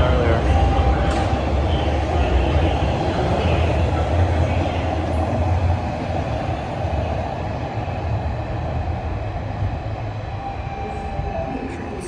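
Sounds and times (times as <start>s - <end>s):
subway train low rumble: 0.0s - 12.0s.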